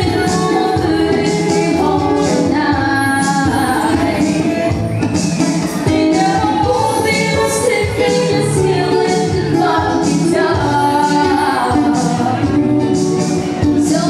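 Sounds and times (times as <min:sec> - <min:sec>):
person singing: 0:00.0 - 0:04.8, 0:05.6 - 0:14.0
acoustic guitar strummed: 0:00.0 - 0:14.0.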